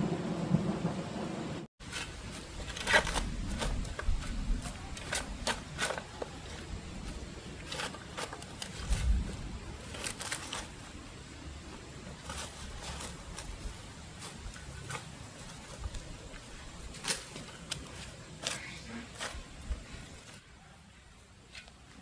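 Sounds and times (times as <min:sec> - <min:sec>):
scrapes and knocks: 0:01.8 - 0:11.0, 0:12.0 - 0:20.4.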